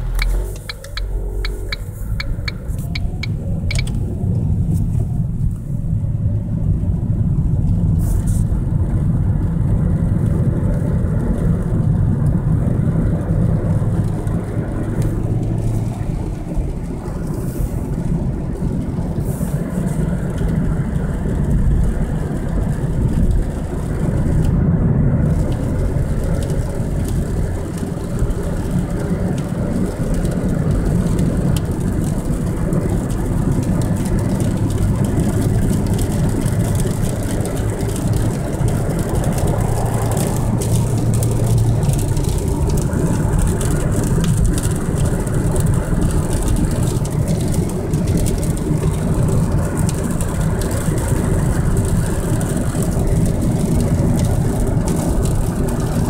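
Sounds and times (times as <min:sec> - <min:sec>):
car engine accelerating: 0:00.0 - 0:56.0
road and tyre noise: 0:00.0 - 0:56.0.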